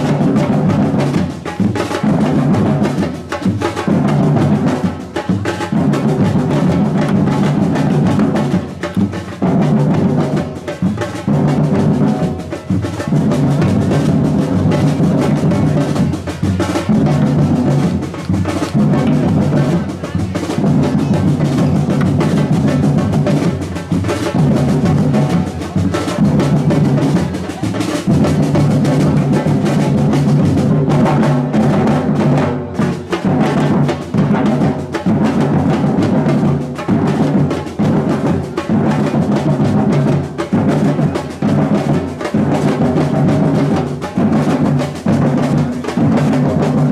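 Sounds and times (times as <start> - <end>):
heavy bass drums: 0.0 - 46.9
samba drum ensemble: 0.0 - 46.9
snare drums: 0.0 - 46.9.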